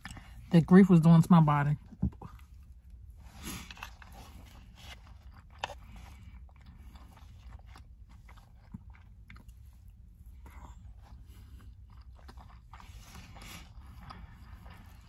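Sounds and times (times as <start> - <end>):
person chewing with crunches: 0.0 - 0.5, 1.8 - 15.0.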